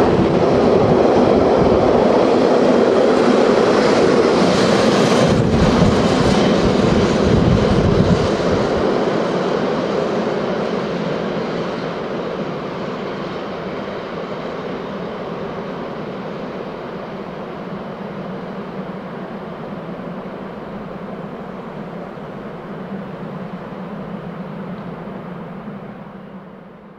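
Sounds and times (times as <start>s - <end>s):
train wheels rumbling on rail: 0.0s - 26.8s.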